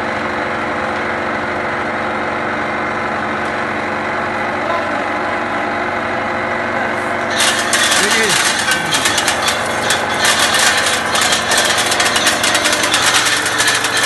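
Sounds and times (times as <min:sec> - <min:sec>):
machine motor drone: 0:00.0 - 0:14.0.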